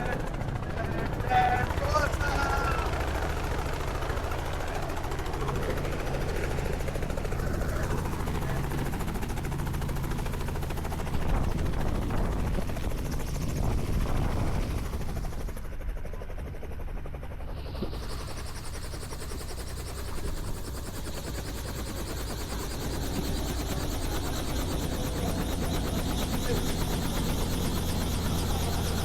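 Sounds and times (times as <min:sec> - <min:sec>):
helicopter engine and turbine: 0:00.0 - 0:29.0
helicopter rotor chop: 0:00.0 - 0:29.0.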